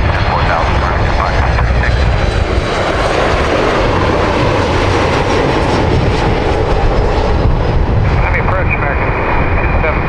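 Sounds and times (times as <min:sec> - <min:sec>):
jet engines running: 0:00.0 - 0:10.0.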